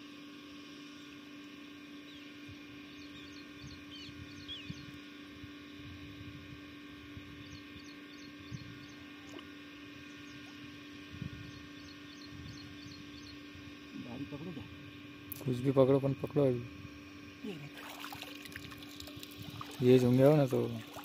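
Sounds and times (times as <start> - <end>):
steady hum of even tones: 0.0 - 21.0.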